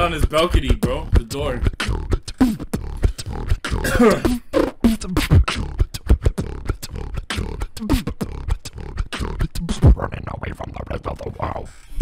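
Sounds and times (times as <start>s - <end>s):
person beatboxing: 0.0s - 12.0s.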